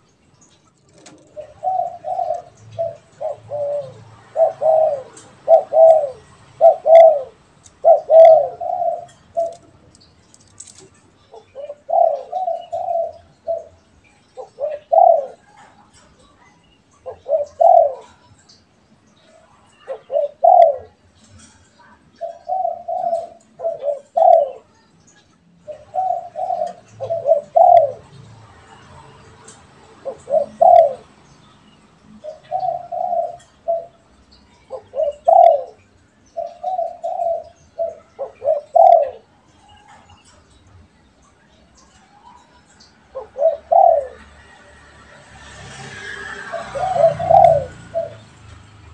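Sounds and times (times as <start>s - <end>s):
doves cooing: 0.7s - 18.6s, 19.3s - 24.8s, 25.6s - 48.9s.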